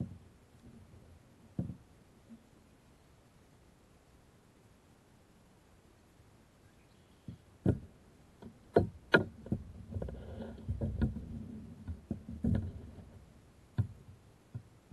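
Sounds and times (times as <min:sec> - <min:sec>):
low rumbling and rustling: 0:00.0 - 0:04.6, 0:07.2 - 0:14.9.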